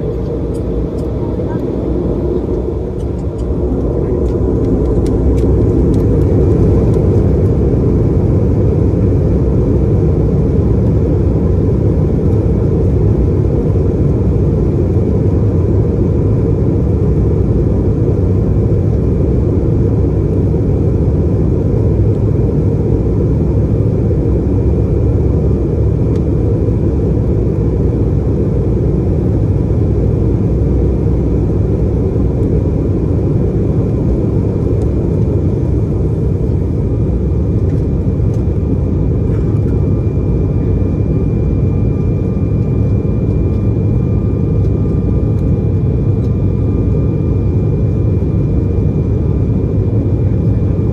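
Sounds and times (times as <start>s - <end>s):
high engine whine: 0.0s - 50.9s
jet engines roaring in cabin: 0.0s - 50.9s.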